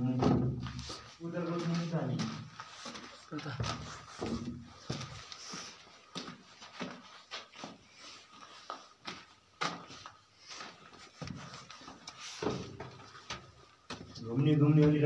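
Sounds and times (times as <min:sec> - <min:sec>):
soft footsteps and scuffs: 0:00.0 - 0:15.0.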